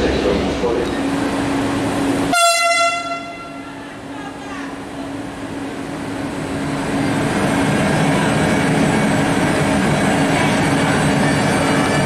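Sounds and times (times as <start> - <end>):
freight train rumble: 0.0 - 12.0.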